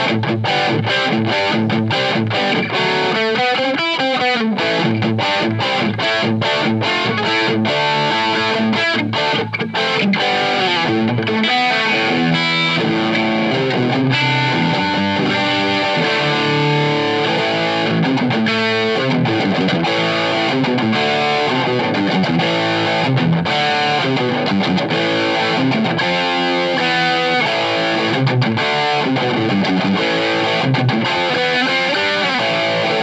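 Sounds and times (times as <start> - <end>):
electric guitar melody: 0.0 - 33.0.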